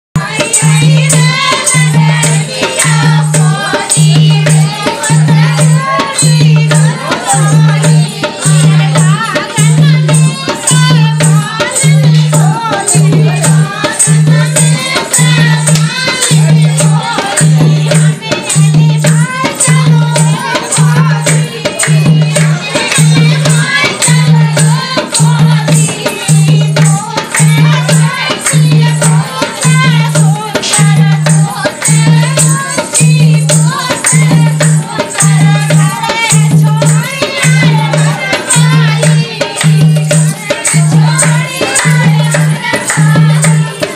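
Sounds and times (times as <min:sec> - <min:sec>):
rattling shaker percussion: 0:00.2 - 0:43.9.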